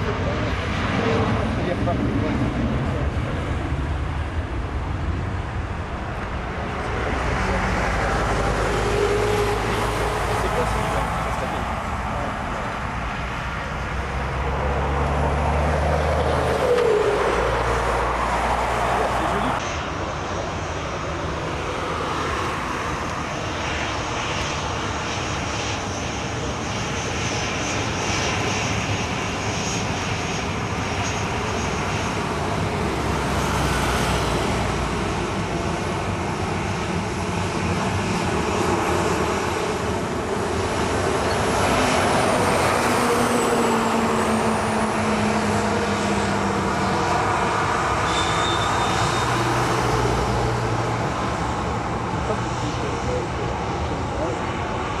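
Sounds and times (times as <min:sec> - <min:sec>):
jet engines at low thrust: 0:00.0 - 0:55.0.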